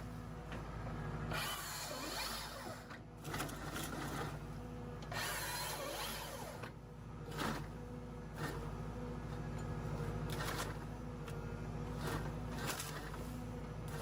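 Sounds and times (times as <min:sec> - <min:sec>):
tractor engine drone: 0:00.0 - 0:14.0.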